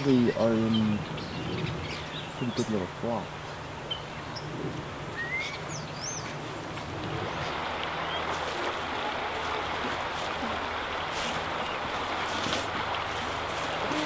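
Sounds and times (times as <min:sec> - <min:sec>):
river water rushing: 0:01.8 - 0:14.0.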